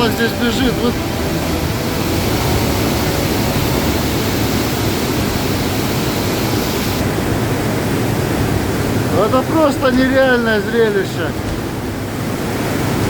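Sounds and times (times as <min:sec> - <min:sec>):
waterfall rushing in a cave: 0:00.0 - 0:13.0.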